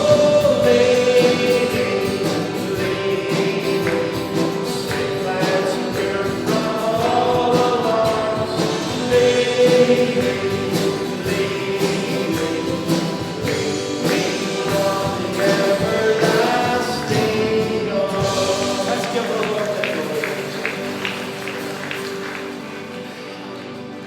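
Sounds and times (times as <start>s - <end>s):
instrumental accompaniment with beat: 0.0s - 22.7s
congregation singing a hymn: 0.0s - 22.8s.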